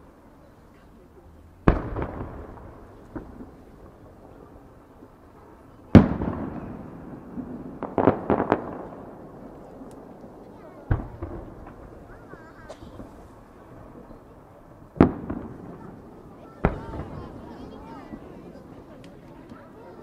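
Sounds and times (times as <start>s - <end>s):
fireworks bursting: 0.0s - 20.0s
small fireworks cracks: 0.0s - 20.0s.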